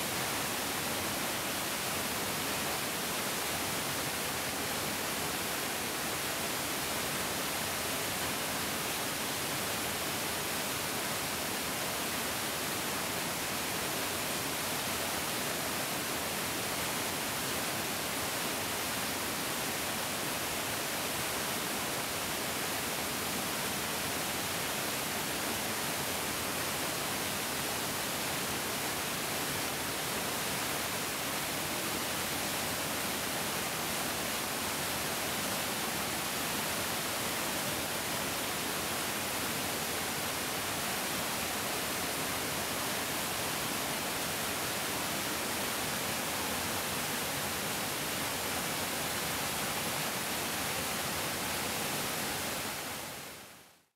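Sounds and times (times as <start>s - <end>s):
stream rushing: 0.0s - 53.6s.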